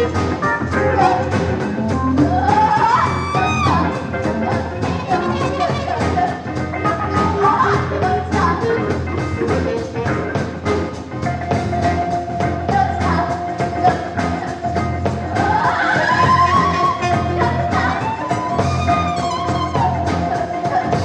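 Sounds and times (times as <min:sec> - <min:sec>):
person singing: 0:00.0 - 0:10.9, 0:11.6 - 0:21.0
bass: 0:00.0 - 0:21.0
drums and percussion: 0:00.0 - 0:21.0
organ: 0:00.0 - 0:21.0.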